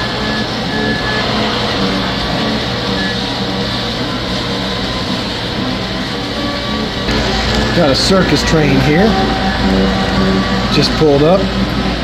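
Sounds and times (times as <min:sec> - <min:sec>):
faint held hum tones: 0:00.0 - 0:12.0
toy trains rumbling and whirring: 0:00.0 - 0:12.0.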